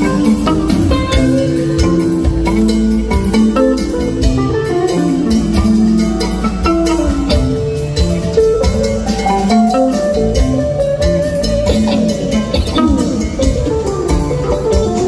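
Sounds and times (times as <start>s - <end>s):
drum kit beat: 0.0s - 15.0s
electric guitar melody: 0.0s - 15.0s
live rock band playing: 0.0s - 15.0s.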